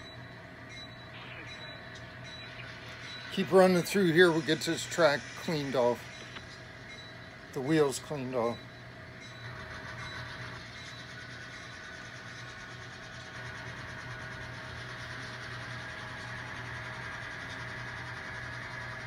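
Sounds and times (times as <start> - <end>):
model train humming: 0.0 - 19.0.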